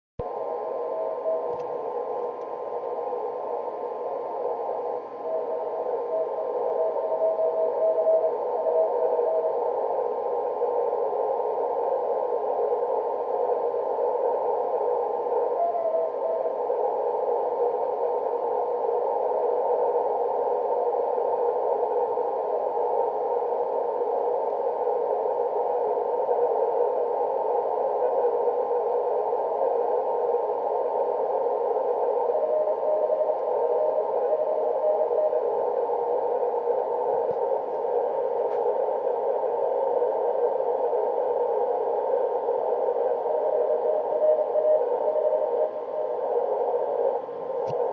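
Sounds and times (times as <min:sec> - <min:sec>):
faint morse tone: 0:00.2 - 0:47.9
radio receiver hiss: 0:00.2 - 0:47.9.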